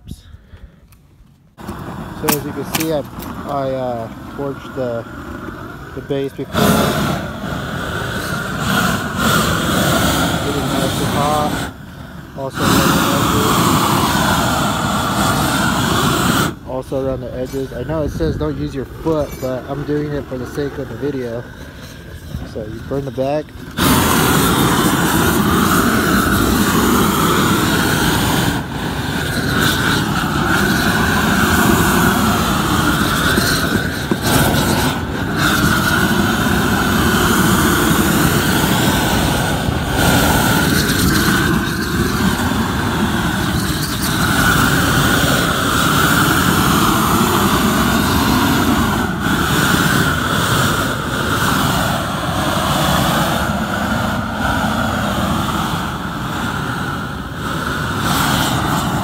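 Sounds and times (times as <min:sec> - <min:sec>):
roofing torch flame roaring: 0:01.5 - 0:59.0.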